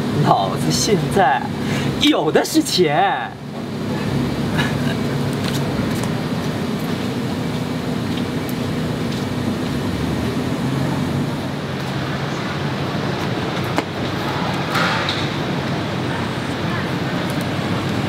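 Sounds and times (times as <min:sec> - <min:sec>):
distant traffic hum: 0:00.0 - 0:18.0.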